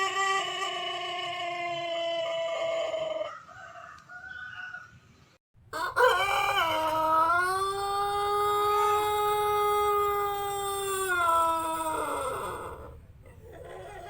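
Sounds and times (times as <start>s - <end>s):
roosters crowing: 0.0s - 5.1s, 5.7s - 14.0s.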